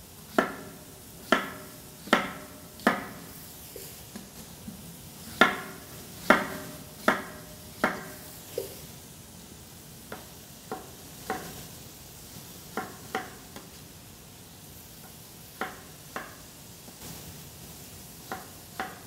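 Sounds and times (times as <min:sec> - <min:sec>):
steady low hiss: 0:00.0 - 0:19.0.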